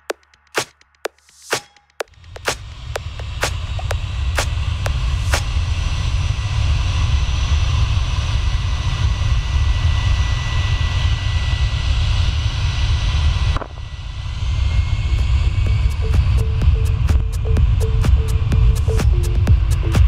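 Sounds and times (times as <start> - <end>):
jet engines running: 1.4 - 20.0.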